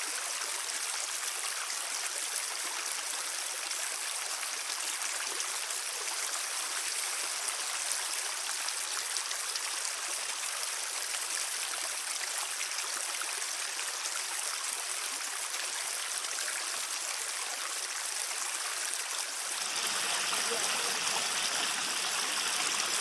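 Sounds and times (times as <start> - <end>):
water rushing through culvert: 0.0 - 23.0.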